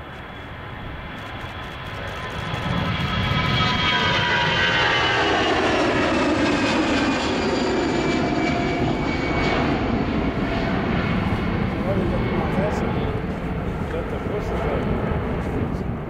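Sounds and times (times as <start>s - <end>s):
jet taking off: 0.0s - 16.0s.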